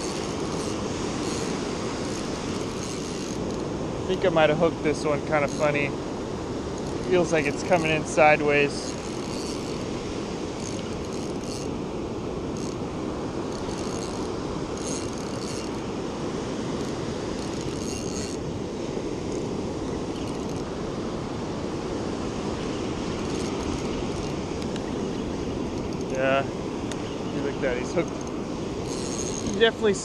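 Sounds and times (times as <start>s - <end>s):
breaking surf: 0.0s - 30.0s.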